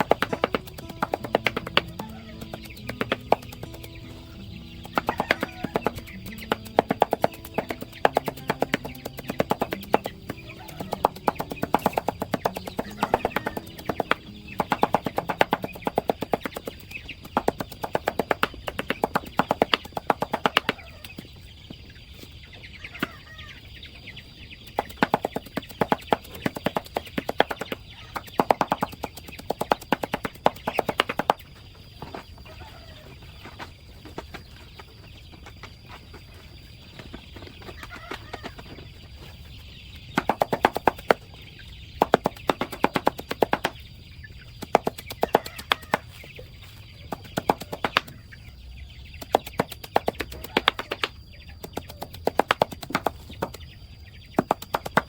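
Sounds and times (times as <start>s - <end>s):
chickens clucking: 0.0s - 55.0s
chickens pecking at food: 0.0s - 55.0s.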